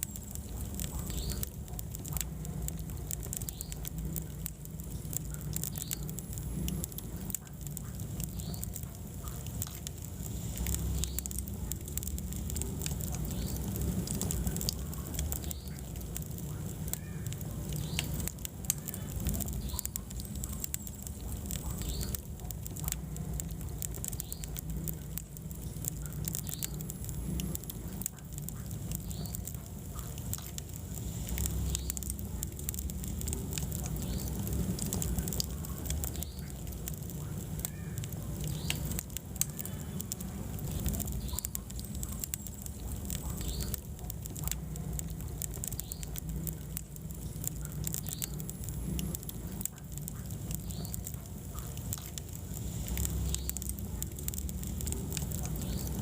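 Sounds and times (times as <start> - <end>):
fire rumbling: 0.0 - 56.0
logs crackling and popping: 0.0 - 56.0.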